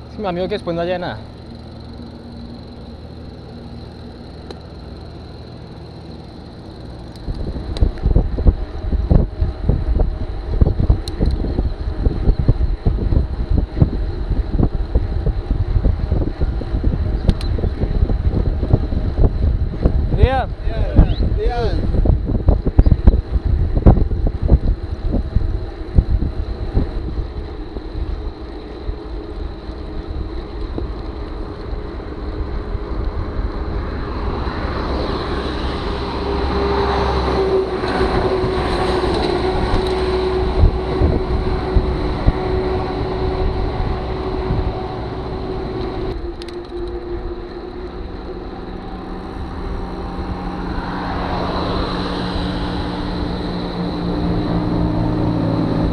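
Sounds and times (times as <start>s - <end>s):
motor traffic passing: 0.0s - 55.9s
road noise: 0.0s - 55.9s
wind buffeting microphone: 1.0s - 55.9s.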